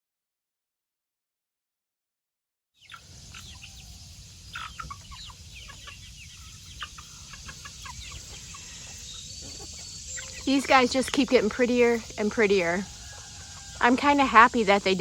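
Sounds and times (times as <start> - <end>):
chickens clucking and chirping: 2.8 - 15.0.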